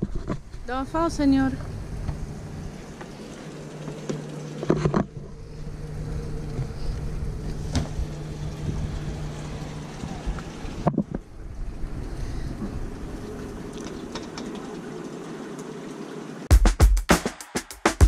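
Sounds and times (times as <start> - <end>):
low mechanical hum: 0.0 - 16.5.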